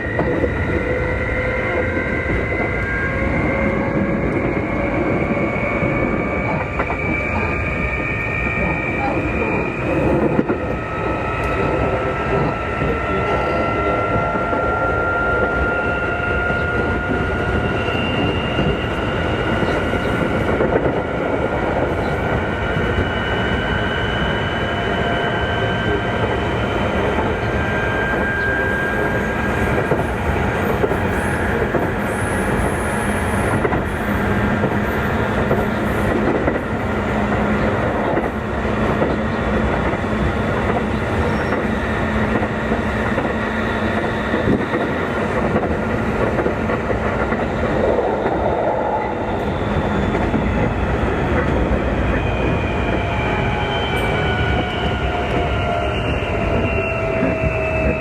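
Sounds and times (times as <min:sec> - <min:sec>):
rail-joint clickety-clack: 0:00.0 - 0:58.0.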